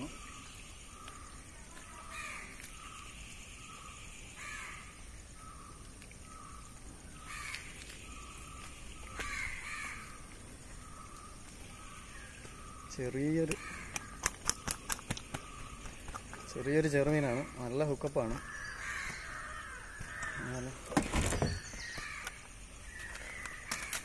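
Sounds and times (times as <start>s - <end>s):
rough bird calls: 0.0s - 24.0s.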